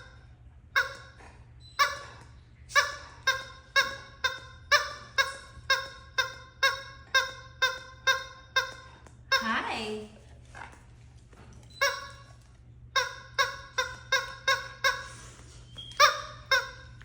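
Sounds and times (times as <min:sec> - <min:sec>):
rubber squeaky toy squeaking: 0:00.8 - 0:09.8, 0:11.7 - 0:12.3, 0:13.0 - 0:17.0.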